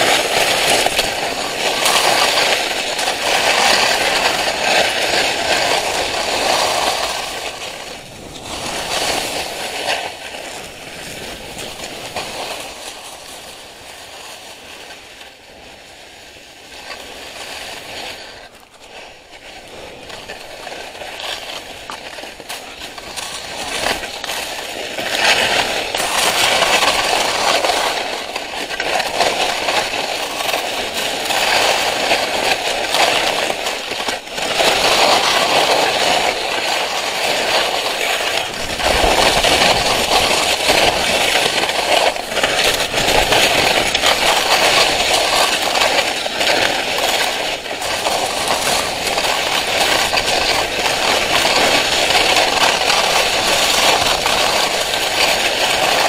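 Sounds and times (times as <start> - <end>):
skis scraping over snow: 0.0 - 56.0.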